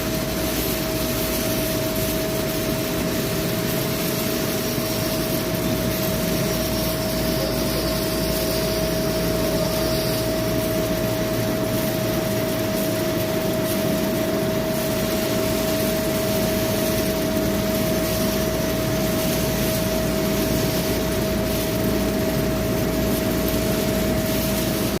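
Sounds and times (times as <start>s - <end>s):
constant machine whine: 0.0s - 25.0s
lathe machine running: 0.0s - 25.0s.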